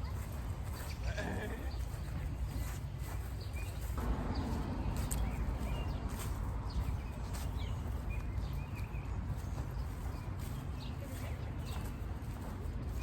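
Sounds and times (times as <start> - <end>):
footsteps on a trail: 0.0 - 13.0
wind rumble on microphone: 0.0 - 13.0.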